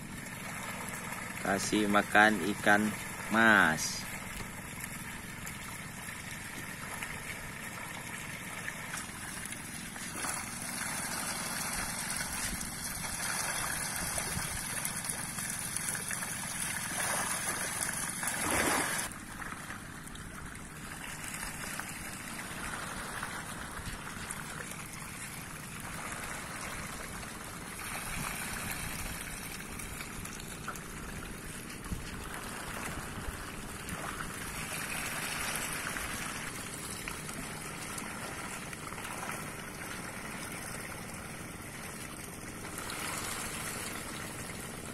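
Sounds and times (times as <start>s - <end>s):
fish splashing in water: 0.0s - 44.9s.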